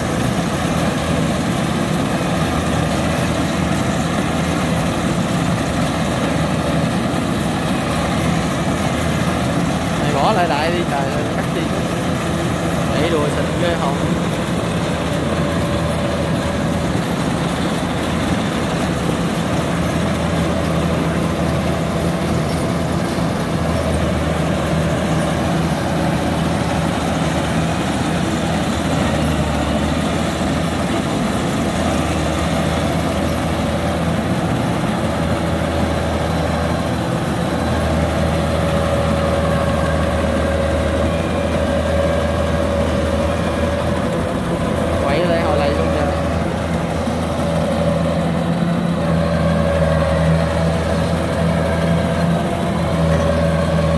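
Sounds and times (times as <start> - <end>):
harvester diesel engine droning: 0.0 - 53.9.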